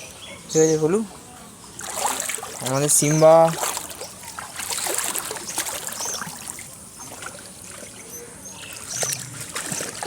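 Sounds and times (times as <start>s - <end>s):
water trickling and lapping: 0.8s - 10.0s
small water splashes: 1.7s - 10.0s.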